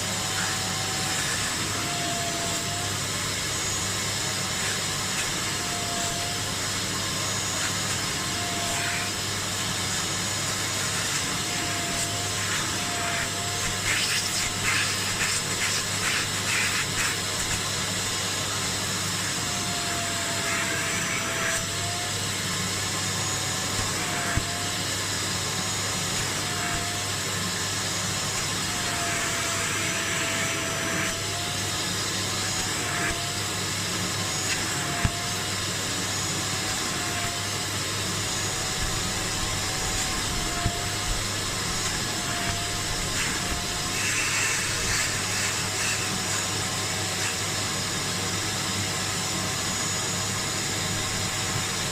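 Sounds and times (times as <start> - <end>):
spray extractor motor running: 0.0 - 51.9.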